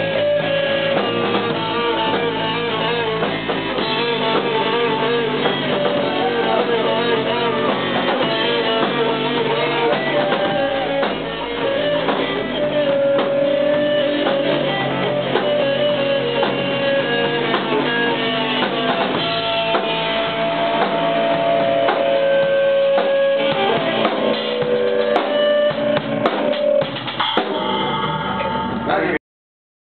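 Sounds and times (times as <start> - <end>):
drum kit beat: 0.0 - 29.2
guitar: 0.0 - 29.2.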